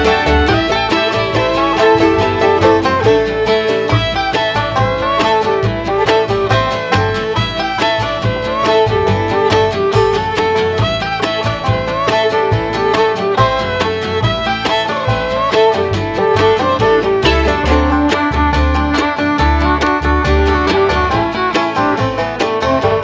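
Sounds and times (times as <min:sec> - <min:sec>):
upbeat bluegrass tune: 0:00.0 - 0:23.0.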